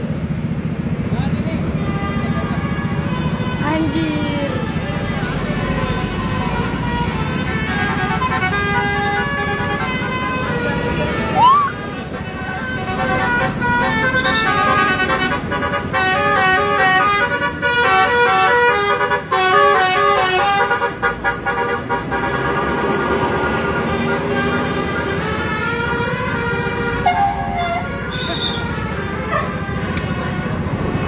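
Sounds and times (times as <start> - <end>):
multi-tone vehicle horn melody: 1.7 - 31.0.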